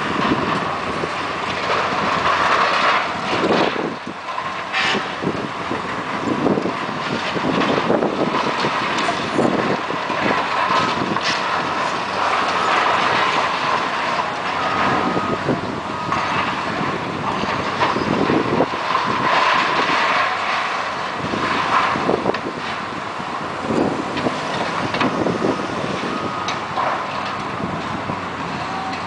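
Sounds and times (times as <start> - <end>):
crashing crunching debris: 0.0 - 29.0
excavator engines running: 0.0 - 29.0.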